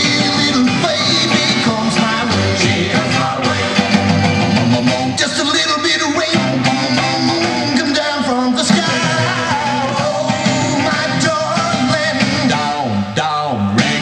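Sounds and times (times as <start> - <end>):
rock and roll song with singing: 0.0 - 14.0.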